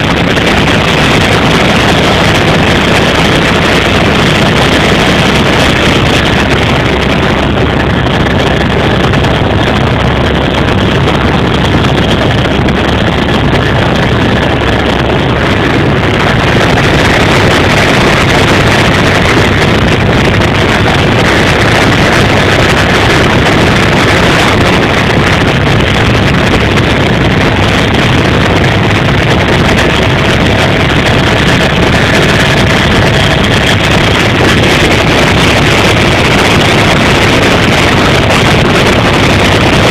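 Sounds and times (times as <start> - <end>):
helicopter engine and rotor drone: 0.0 - 39.9
wind rushing over microphone: 0.0 - 39.9.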